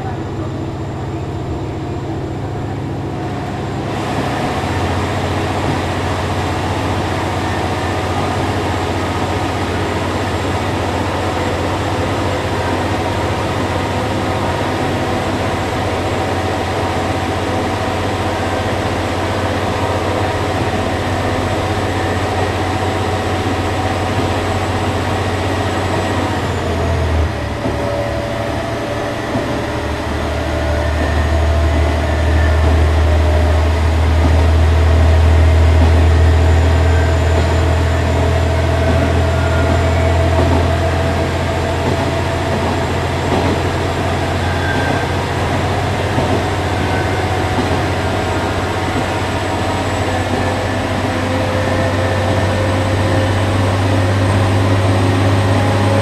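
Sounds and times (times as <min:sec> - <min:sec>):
diesel railcar engine hum: 0:00.0 - 0:56.0
train rumbling on track: 0:00.0 - 0:56.0.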